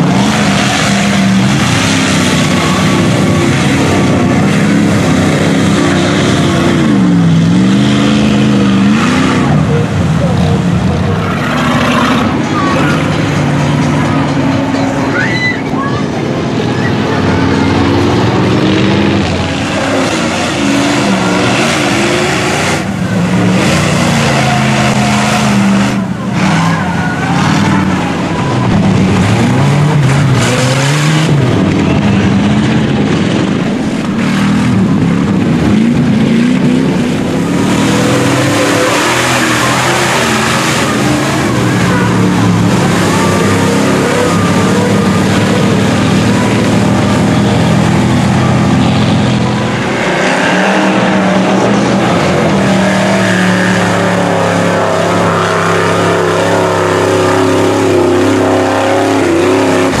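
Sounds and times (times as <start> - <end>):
rushing churned mud: 0.0 - 60.0
truck engines revving: 0.0 - 60.0.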